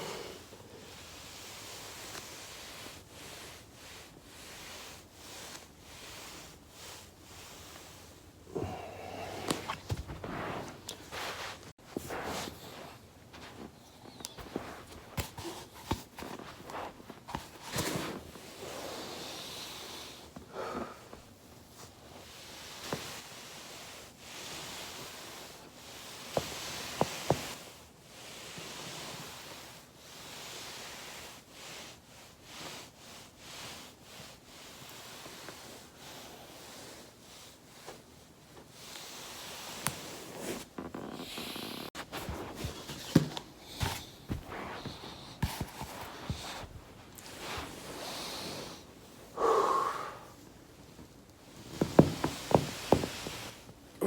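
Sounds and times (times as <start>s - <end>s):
body rolling on foam roller: 0.8s - 27.8s, 33.5s - 54.0s.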